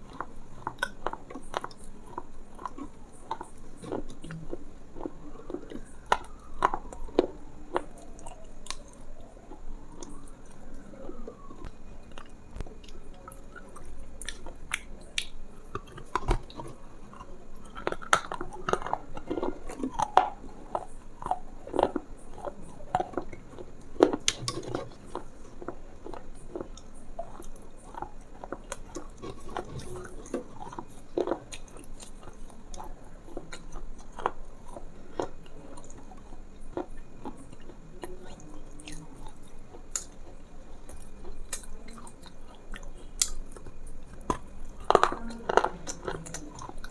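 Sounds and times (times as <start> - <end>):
crunchy chewing and biting: 0.0 - 46.9.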